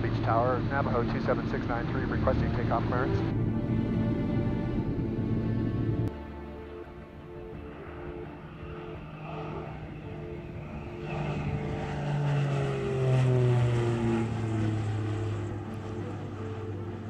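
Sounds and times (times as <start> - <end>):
propeller plane droning past: 0.0 - 17.0.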